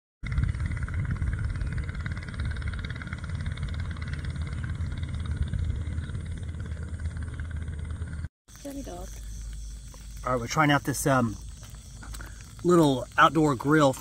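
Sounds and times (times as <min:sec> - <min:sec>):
small engine running: 0:00.2 - 0:14.0.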